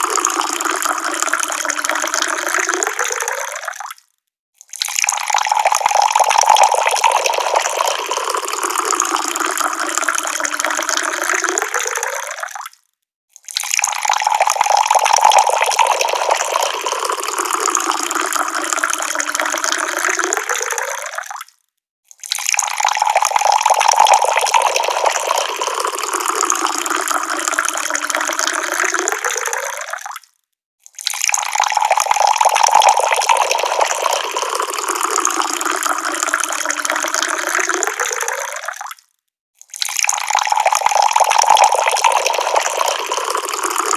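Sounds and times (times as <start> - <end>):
water pouring from a tap: 0.0 - 4.0, 4.6 - 39.0, 39.6 - 43.9.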